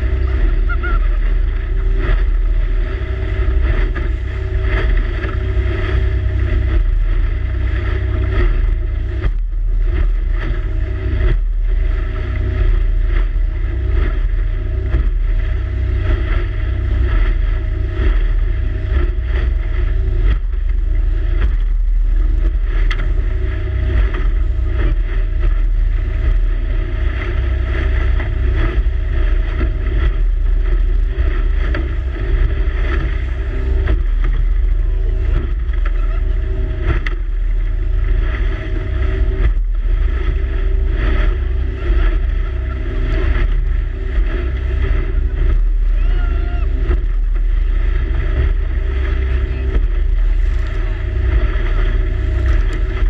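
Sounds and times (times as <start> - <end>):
boat motor running: 0.0 - 53.0
wind rumble on microphone: 0.0 - 53.0.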